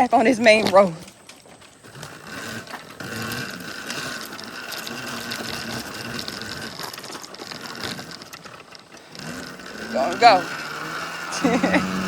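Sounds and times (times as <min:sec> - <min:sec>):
electric motor whining: 0:01.8 - 0:12.0.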